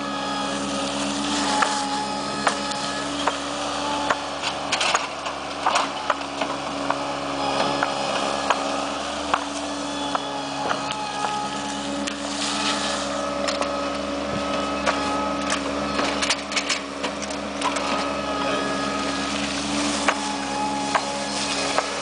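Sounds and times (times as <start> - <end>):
machine engine running: 0.0 - 22.0.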